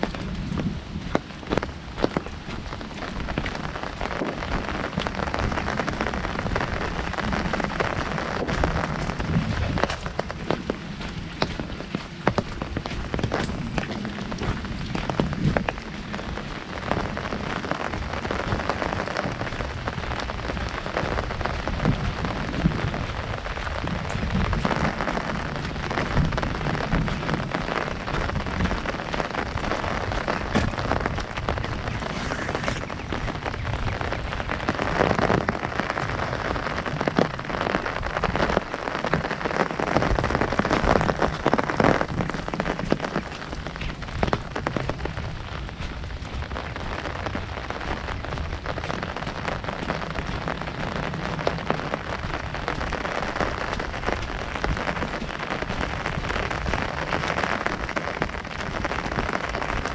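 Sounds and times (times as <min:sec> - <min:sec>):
heavy rain on an umbrella: 0:00.0 - 0:59.9.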